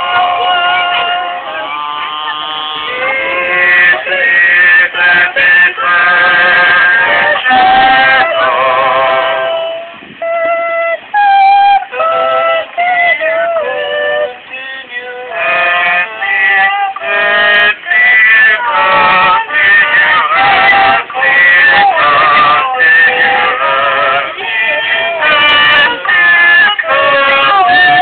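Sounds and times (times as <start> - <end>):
high wavering singing-like melody: 0.0 - 28.0.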